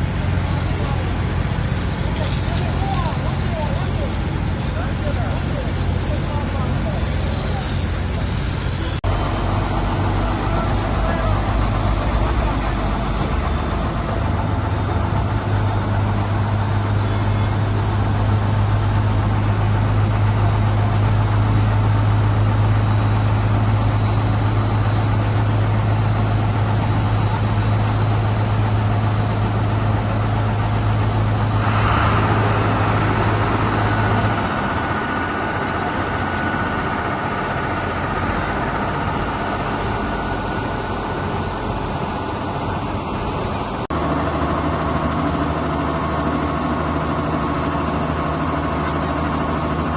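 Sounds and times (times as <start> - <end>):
strong low hum: 0.0 - 46.0
diesel engine running: 0.0 - 49.9
engine whine: 0.0 - 49.9.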